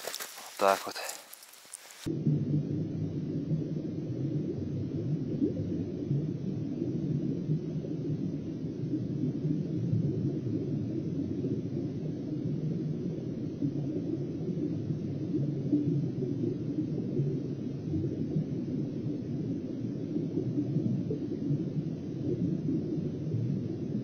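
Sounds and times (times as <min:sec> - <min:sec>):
muffled underwater rumble: 0:02.1 - 0:24.0.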